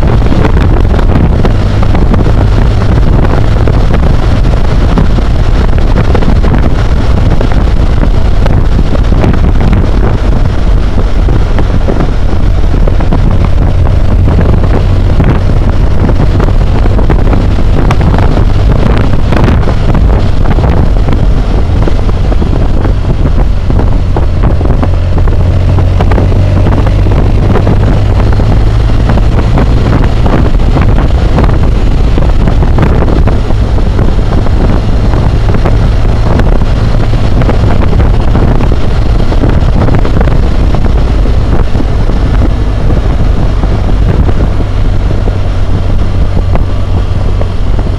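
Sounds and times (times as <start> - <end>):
motorcycle engine running: 0.0 - 47.9
wind buffeting microphone: 0.0 - 47.9.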